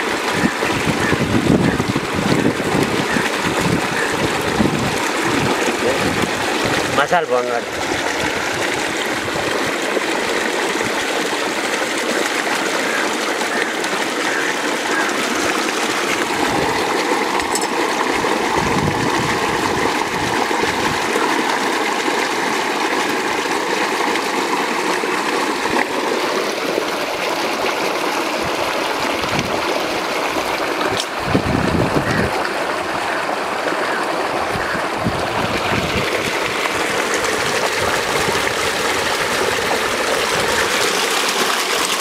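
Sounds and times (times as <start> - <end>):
water flowing in a channel: 0.0 - 42.0.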